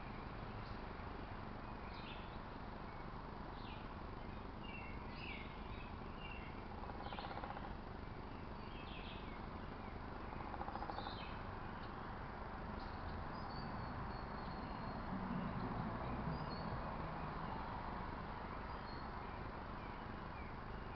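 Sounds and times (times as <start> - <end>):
outdoor background noise: 0.0 - 20.9
small birds chirping: 0.0 - 20.9.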